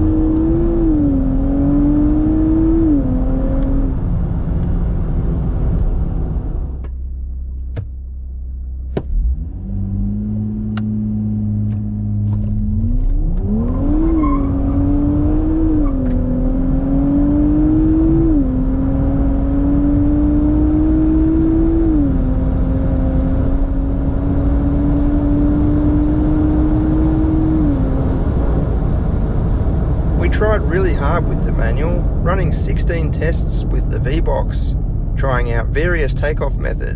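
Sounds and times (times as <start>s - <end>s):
car engine revving and accelerating: 0.0s - 6.9s, 8.9s - 36.9s.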